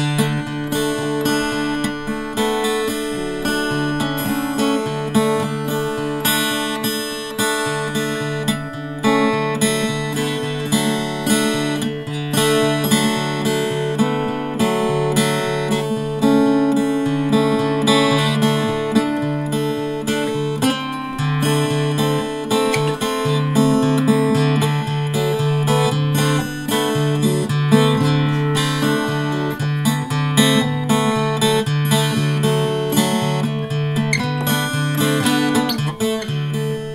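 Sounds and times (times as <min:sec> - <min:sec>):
acoustic guitar strumming: 0:00.0 - 0:36.9.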